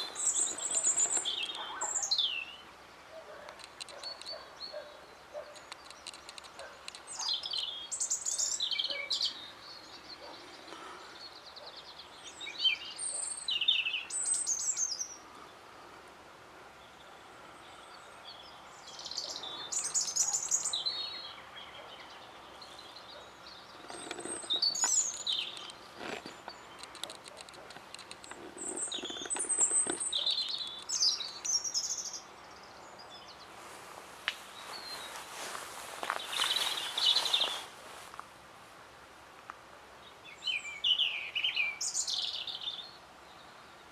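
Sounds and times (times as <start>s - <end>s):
robin singing warbles and trills: 0.0s - 33.7s, 34.4s - 37.8s, 39.9s - 43.9s.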